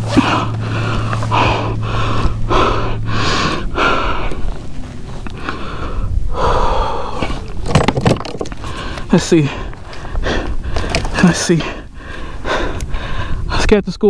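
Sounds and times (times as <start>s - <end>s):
man breathing hard: 0.0s - 13.6s.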